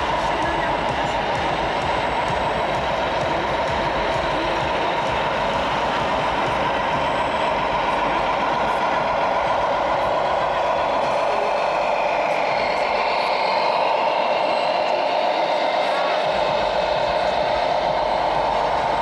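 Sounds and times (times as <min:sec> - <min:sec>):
electronic engine sound: 0:00.0 - 0:19.0.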